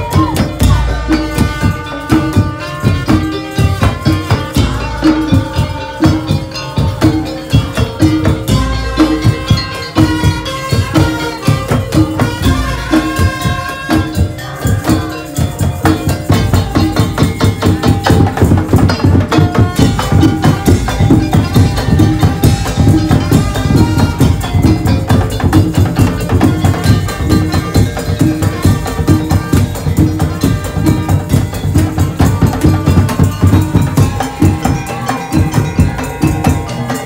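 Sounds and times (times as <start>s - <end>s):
percussion ensemble playing: 0.0s - 37.0s
repeating pitched melody: 0.0s - 37.0s.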